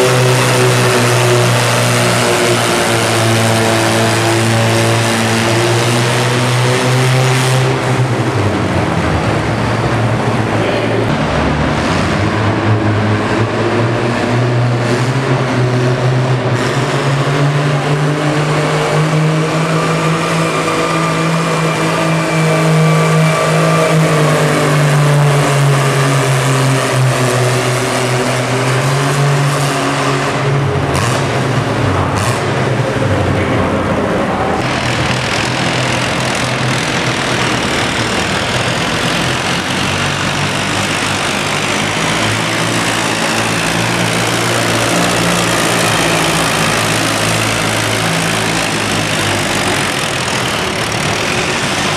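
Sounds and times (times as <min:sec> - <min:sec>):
tractor engine running under load: 0:00.0 - 0:32.0, 0:32.6 - 0:51.9.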